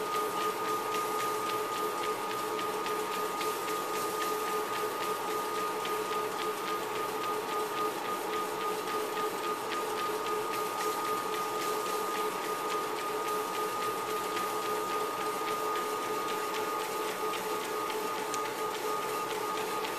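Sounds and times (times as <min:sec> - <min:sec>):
treadmill motor whine: 0:00.0 - 0:19.9.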